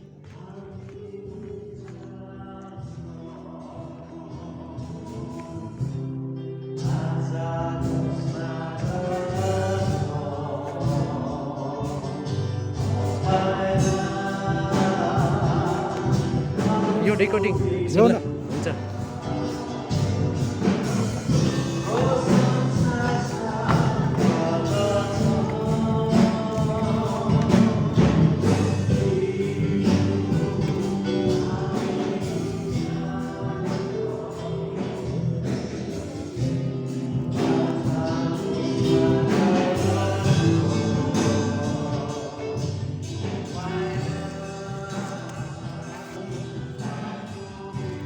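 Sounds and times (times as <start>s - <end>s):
gospel singing over instruments: 0.0s - 48.0s.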